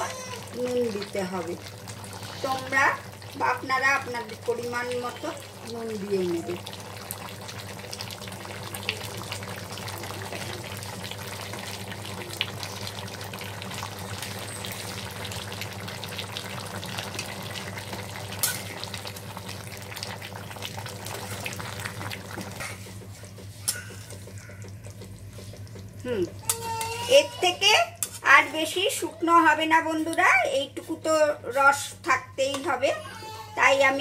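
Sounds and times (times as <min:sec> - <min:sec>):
curry sizzling in a pan: 0:00.0 - 0:34.0.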